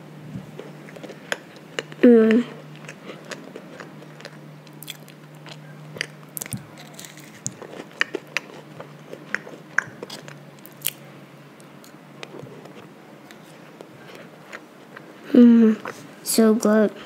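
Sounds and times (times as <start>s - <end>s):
chewing soft donut: 0.4s - 16.2s.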